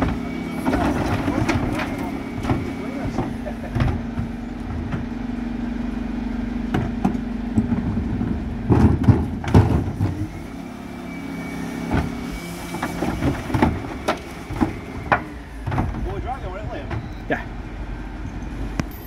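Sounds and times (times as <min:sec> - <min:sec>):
hydraulic whine: 0:00.0 - 0:19.0
refuse truck engine running: 0:00.0 - 0:19.0.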